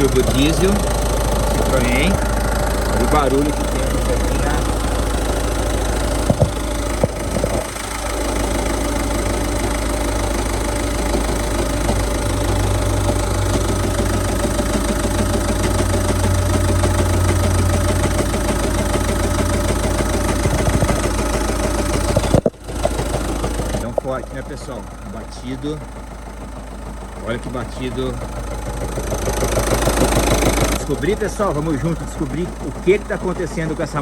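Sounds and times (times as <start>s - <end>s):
diesel engine idling with knocking: 0.0s - 34.0s.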